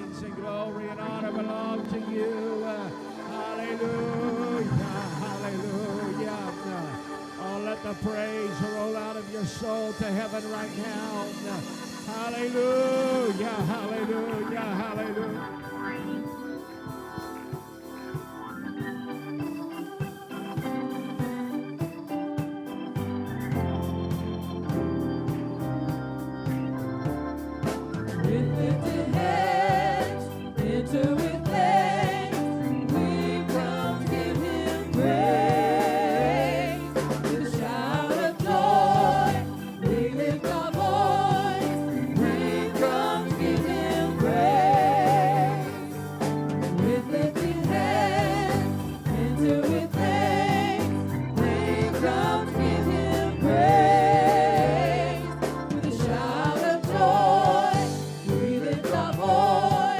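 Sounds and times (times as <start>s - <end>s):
voices singing with vibrato: 0.0s - 22.5s, 28.0s - 59.9s
instrumental accompaniment with bass: 0.0s - 59.9s.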